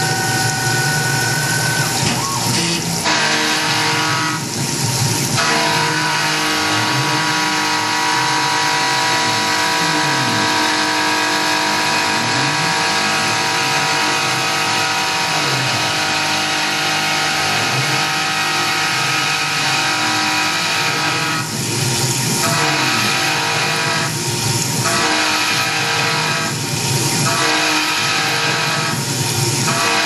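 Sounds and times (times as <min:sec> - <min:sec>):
low sweeping tone: 0:00.0 - 0:25.0
milling machine cutting metal: 0:00.0 - 0:30.0.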